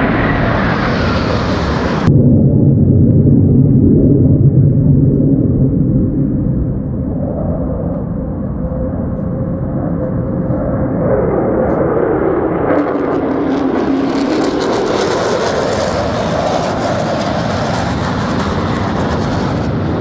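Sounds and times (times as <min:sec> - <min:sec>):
aircraft flying low: 0:00.0 - 0:20.0.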